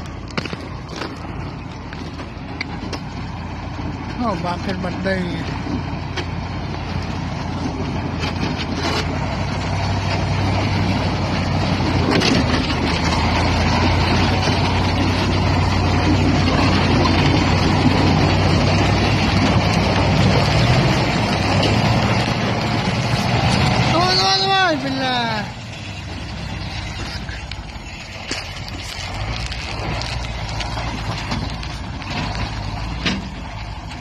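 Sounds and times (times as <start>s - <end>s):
truck diesel engine running: 0.0s - 34.0s
wheels churning through slush: 0.0s - 34.0s.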